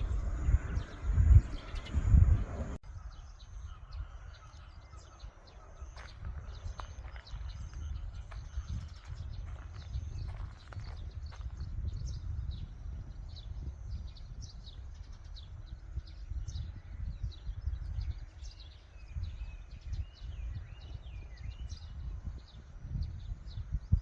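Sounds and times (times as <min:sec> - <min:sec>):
small birds chirping: 0:00.0 - 0:24.0
wind on microphone: 0:00.0 - 0:24.0.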